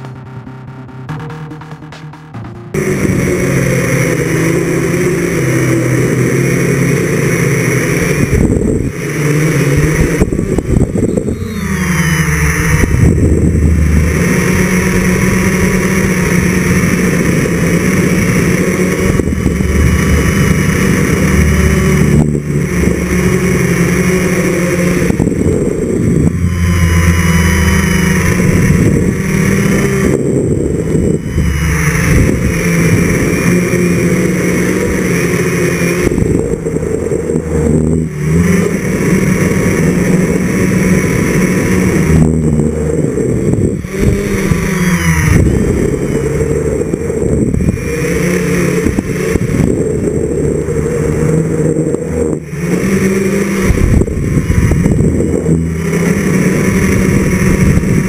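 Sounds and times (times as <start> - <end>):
quadcopter propellers whirring: 2.7 - 58.0.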